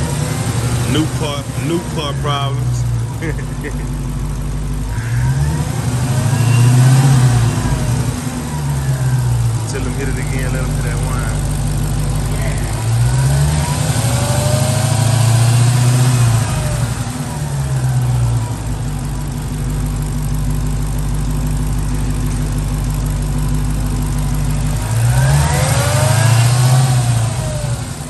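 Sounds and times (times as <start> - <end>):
engine revving in blips: 0.0 - 28.0
supercharger whine: 0.0 - 28.0.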